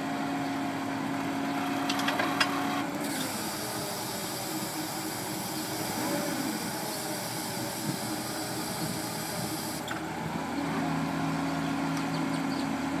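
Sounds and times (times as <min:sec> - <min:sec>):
forklift running: 0:00.0 - 0:13.0.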